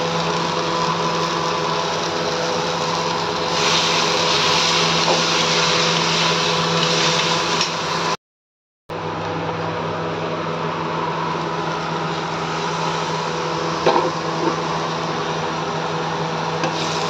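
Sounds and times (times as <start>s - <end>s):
motor humming and hissing: 0.0s - 8.2s, 9.0s - 17.0s.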